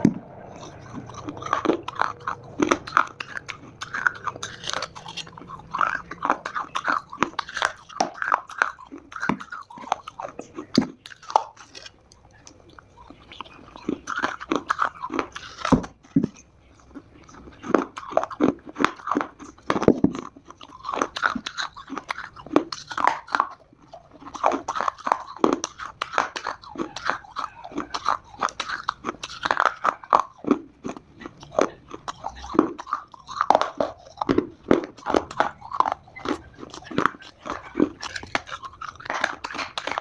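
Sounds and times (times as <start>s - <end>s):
clay being chewed crunching: 0.0s - 40.0s.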